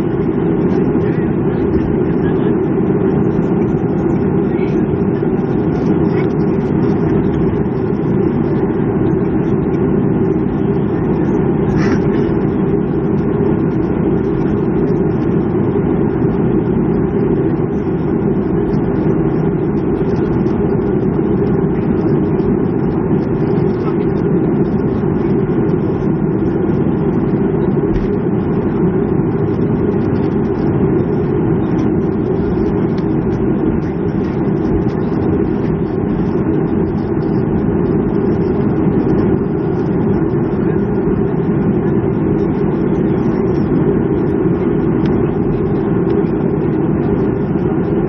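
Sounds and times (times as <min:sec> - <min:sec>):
airliner cabin noise: 0:00.0 - 0:48.0.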